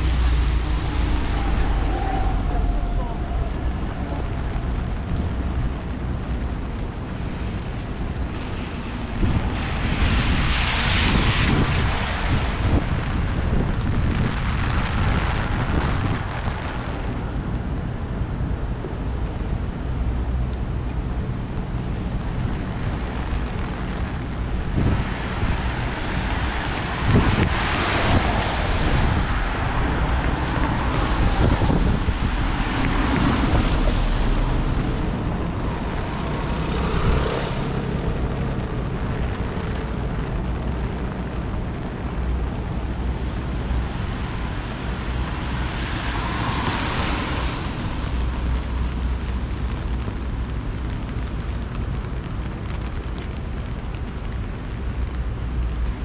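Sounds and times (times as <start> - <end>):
steady wet hiss of rain: 0.0 - 56.0
vehicles swishing past on wet road: 0.0 - 56.0
wind rumbling on microphone: 0.0 - 56.0.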